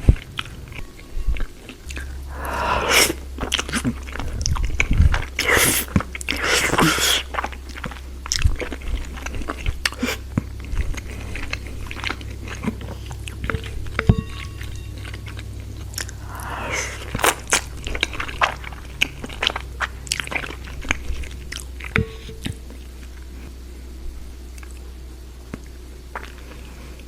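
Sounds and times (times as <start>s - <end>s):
person chewing crunchy food: 0.0s - 23.9s, 24.5s - 27.0s.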